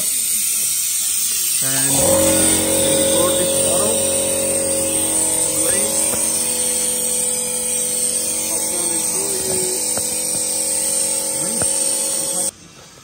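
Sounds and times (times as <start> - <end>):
air compressor humming: 1.6 - 12.5.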